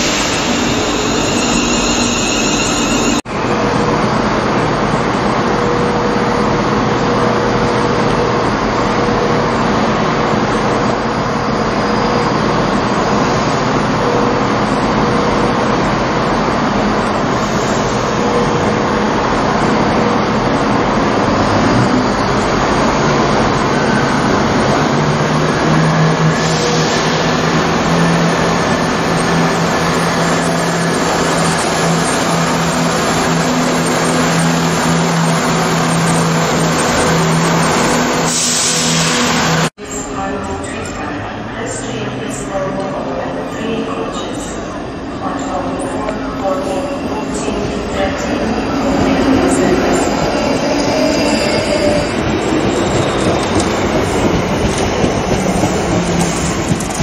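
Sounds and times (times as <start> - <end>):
diesel train engines: 0.0 - 57.0.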